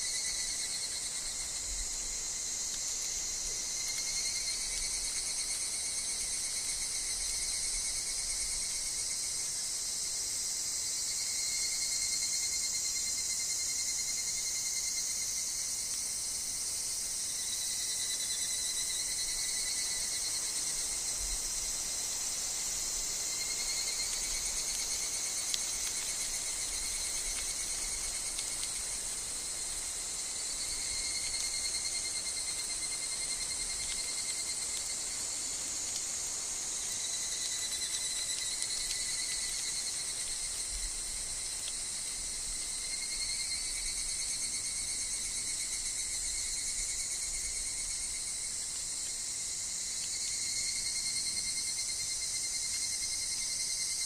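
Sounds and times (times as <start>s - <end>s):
cicadas shrill trilling: 0.0s - 54.0s
insects chorus: 0.0s - 54.0s.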